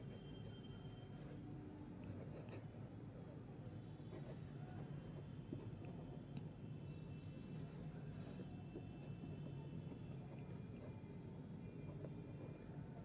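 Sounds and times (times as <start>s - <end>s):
pen scratching on paper: 0.0s - 6.2s, 8.3s - 13.0s.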